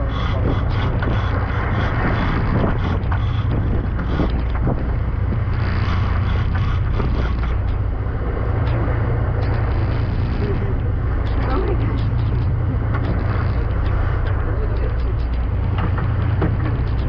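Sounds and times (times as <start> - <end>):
boat engine droning: 0.0 - 17.0
wind rushing over microphone: 0.0 - 17.0.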